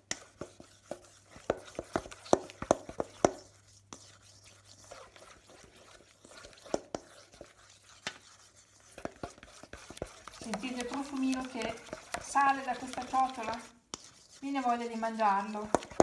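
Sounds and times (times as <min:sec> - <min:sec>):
spatula scraping metal bowl: 0:00.0 - 0:16.0.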